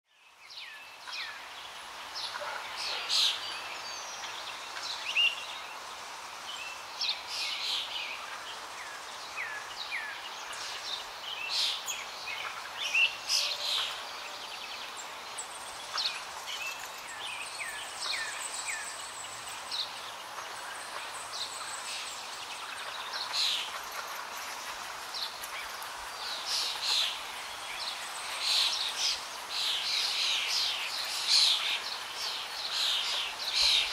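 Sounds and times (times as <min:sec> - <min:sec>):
small birds chirping: 0:00.1 - 0:33.9
steady background hiss: 0:00.1 - 0:33.9.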